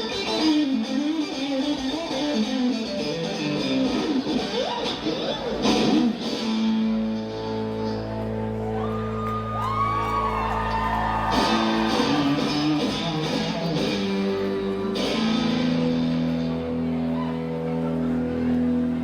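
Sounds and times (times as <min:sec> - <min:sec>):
live band instrumental music: 0:00.0 - 0:09.4, 0:10.9 - 0:19.0
guitar: 0:00.0 - 0:19.0.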